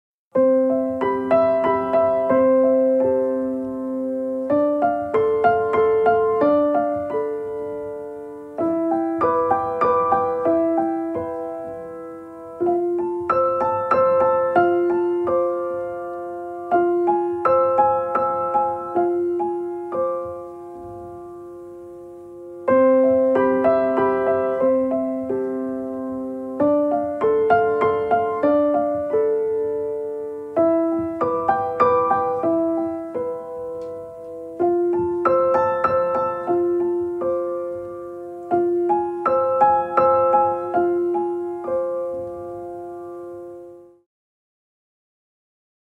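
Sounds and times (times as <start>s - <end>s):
slow gentle piano melody: 0.3s - 44.1s.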